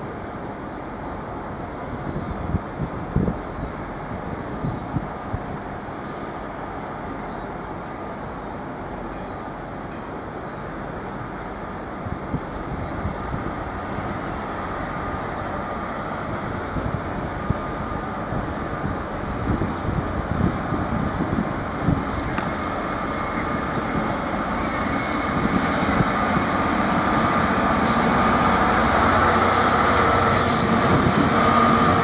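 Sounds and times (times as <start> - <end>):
distant diesel locomotive rumble: 0.0 - 32.0
faint locomotive whine: 0.0 - 32.0.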